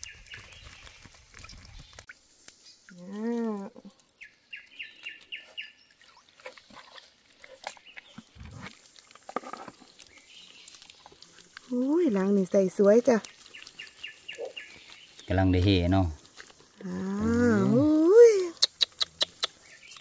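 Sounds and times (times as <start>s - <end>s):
water dripping and splashing: 0.0s - 20.0s.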